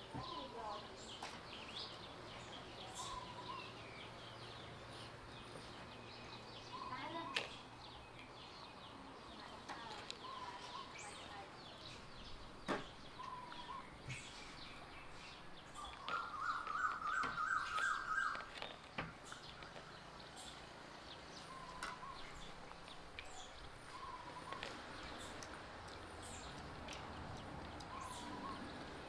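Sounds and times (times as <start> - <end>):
birds quick chirping: 0.1 - 29.0.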